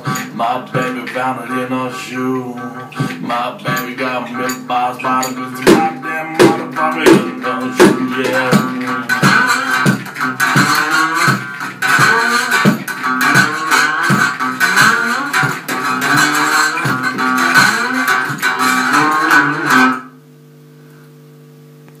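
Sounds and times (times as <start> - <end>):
low beat: 0.0 - 20.1
electric guitar strumming: 0.0 - 20.2.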